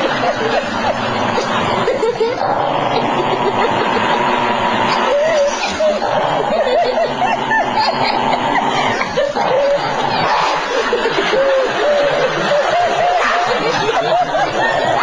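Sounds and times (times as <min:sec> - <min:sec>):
crowd laughing: 0:00.0 - 0:15.0.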